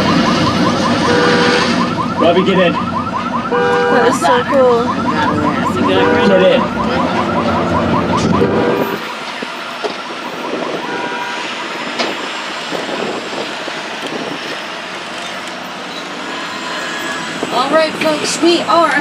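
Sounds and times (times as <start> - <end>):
wailing siren-like effect: 0.0 - 14.8, 16.2 - 19.0.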